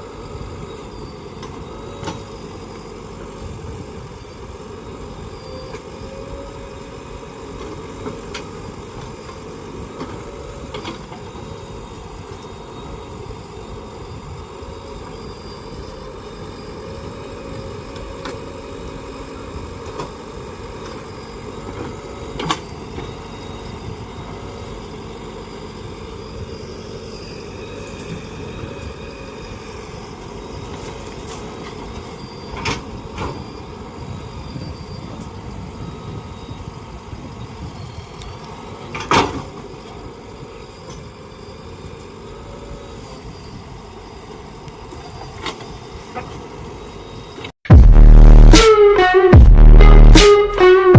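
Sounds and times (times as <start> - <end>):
diesel engine running: 0.0 - 43.4, 47.7 - 50.9.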